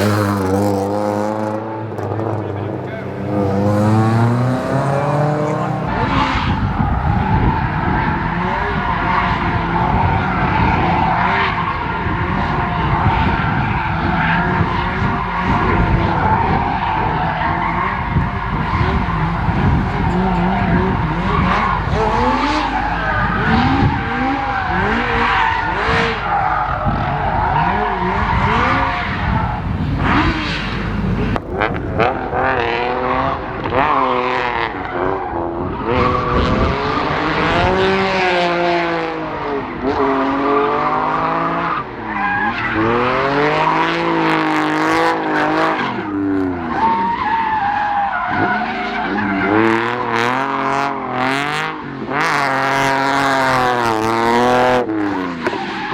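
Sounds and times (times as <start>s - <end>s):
rally car engine revving: 0.0s - 55.9s.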